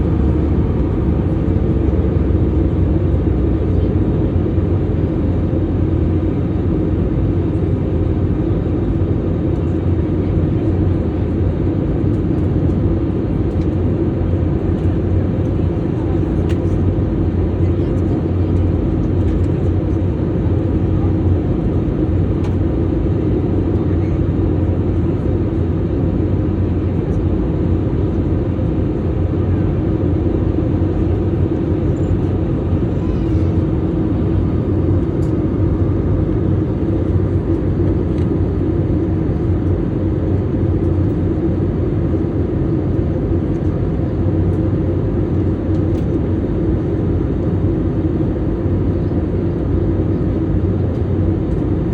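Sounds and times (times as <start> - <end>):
airliner engines rumble and hiss: 0.0 - 51.9.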